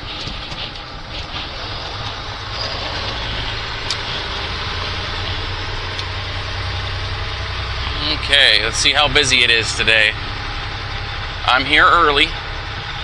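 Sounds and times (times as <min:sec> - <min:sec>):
truck diesel engine humming: 0:00.0 - 0:13.0.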